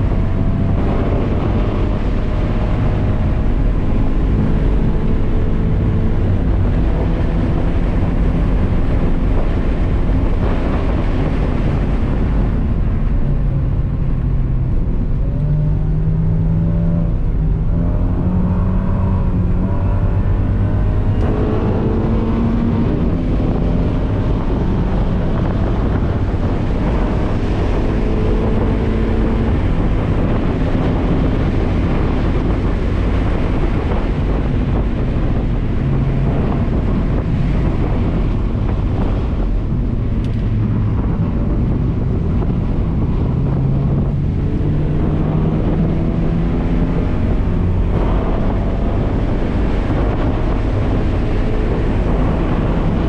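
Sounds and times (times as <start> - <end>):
car engine accelerating: 0.0 - 53.0
wind and road noise: 0.0 - 53.0.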